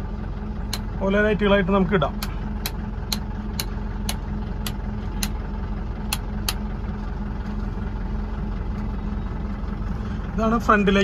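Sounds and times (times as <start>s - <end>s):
van engine idling hum: 0.0s - 11.0s.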